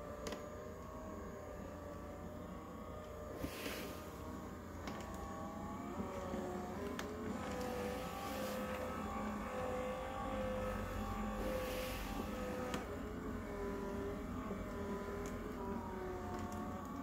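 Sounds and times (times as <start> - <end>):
exercise machine motor whine: 0.0 - 17.0.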